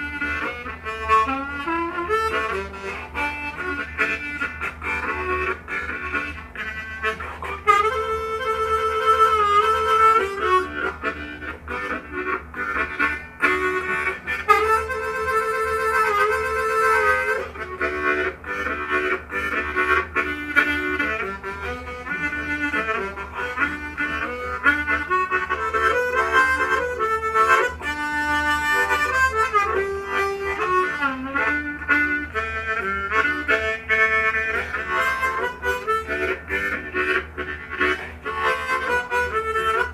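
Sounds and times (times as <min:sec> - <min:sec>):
harmonica playing rhythmic chords: 0:00.0 - 0:39.9.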